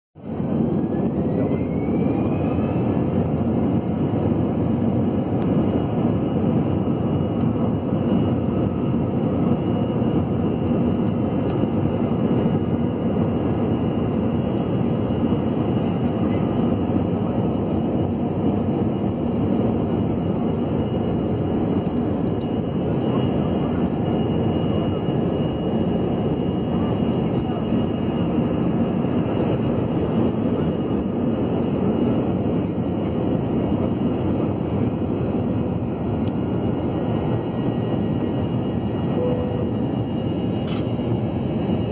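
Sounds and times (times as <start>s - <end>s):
high engine whine: 0.2s - 41.9s
jet engines rumbling: 0.2s - 41.9s.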